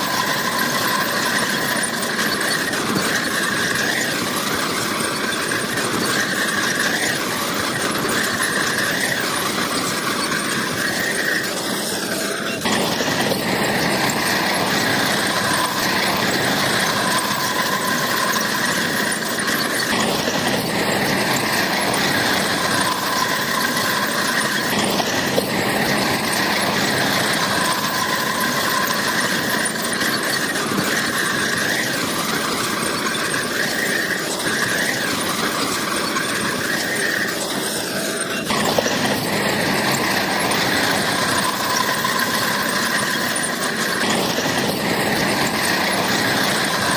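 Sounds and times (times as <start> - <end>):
bulldozer engine running: 0.0 - 46.9
steel tracks squealing: 0.0 - 46.9.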